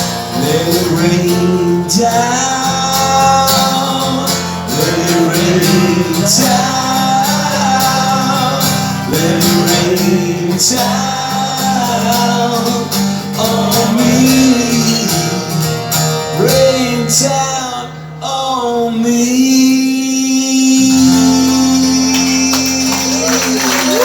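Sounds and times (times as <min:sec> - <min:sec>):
live rock guitar: 0:00.0 - 0:24.0
man singing: 0:00.0 - 0:24.0.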